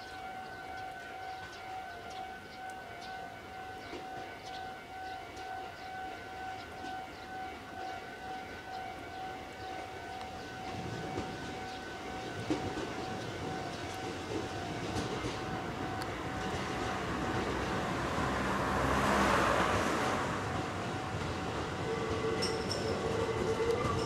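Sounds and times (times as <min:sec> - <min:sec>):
railcar rumbling over points: 0:00.0 - 0:24.0.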